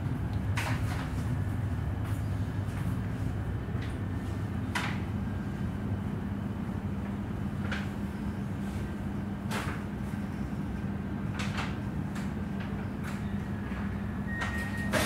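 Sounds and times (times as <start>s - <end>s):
train rumble and motor hum: 0.0s - 15.0s.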